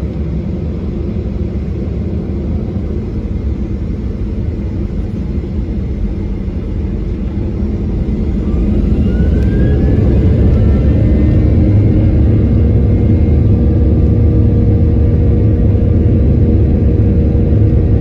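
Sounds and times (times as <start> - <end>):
jet engines rumbling and whining: 0.0 - 18.0.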